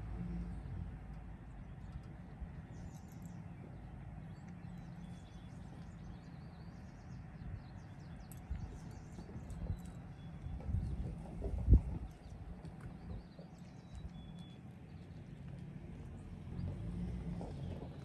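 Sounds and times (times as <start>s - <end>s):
low outdoor rumble: 0.0s - 18.0s
birds chirping: 1.3s - 18.0s.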